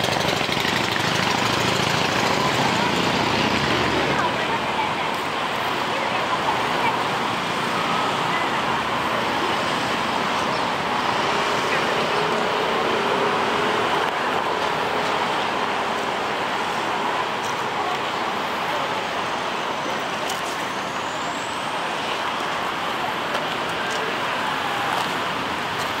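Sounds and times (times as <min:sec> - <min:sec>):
city road traffic: 0:00.0 - 0:26.0.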